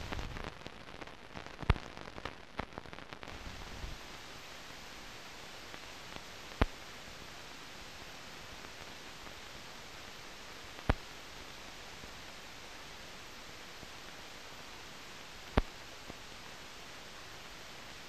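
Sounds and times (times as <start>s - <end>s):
film soundtrack hiss: 0.0s - 18.0s.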